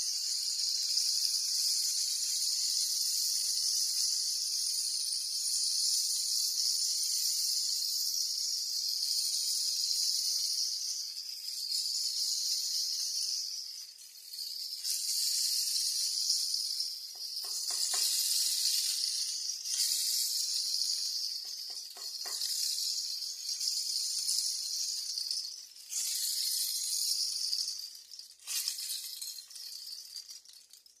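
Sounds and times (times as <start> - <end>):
rain stick hiss: 0.0 - 31.0.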